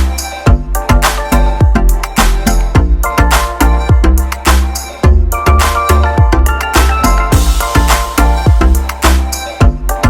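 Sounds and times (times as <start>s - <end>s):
deep bass: 0.0s - 10.0s
heavy kick drum: 0.0s - 10.0s.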